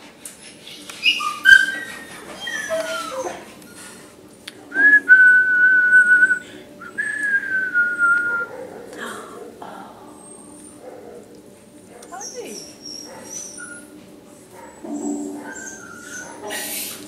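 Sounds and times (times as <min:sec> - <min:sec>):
dog whining: 0:00.3 - 0:11.3, 0:11.9 - 0:17.0.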